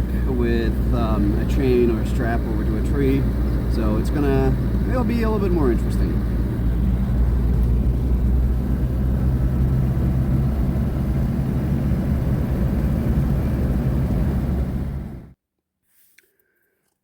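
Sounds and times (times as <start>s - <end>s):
car engine and road drone: 0.0s - 15.4s.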